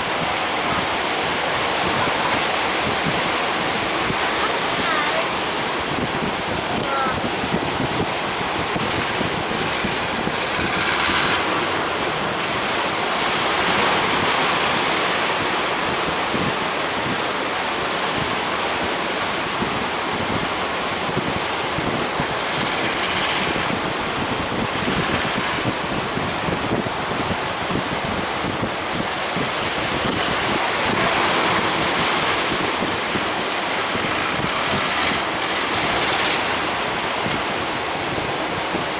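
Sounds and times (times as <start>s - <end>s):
ocean waves breaking: 0.0s - 38.9s
wind buffeting microphone: 0.0s - 38.9s.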